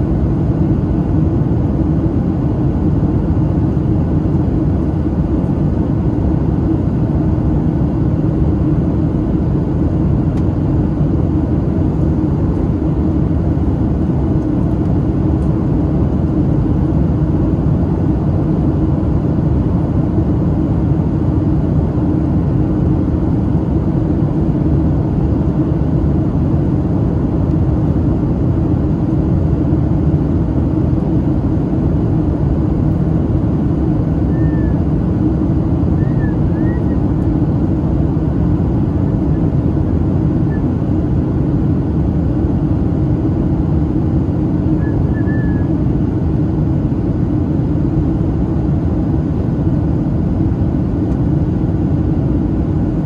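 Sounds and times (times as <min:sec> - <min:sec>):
aircraft cabin engine noise: 0:00.0 - 0:53.0.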